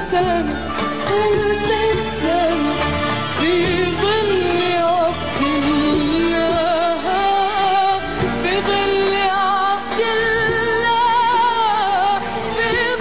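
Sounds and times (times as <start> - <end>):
pop instrumental backing: 0.0 - 13.0.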